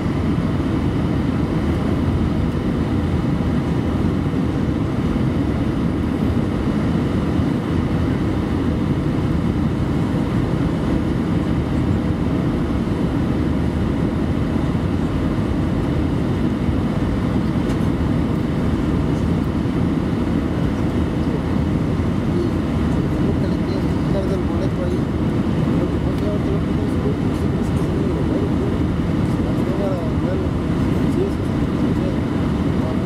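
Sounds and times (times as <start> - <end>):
aircraft cabin engine roar: 0.0 - 33.0.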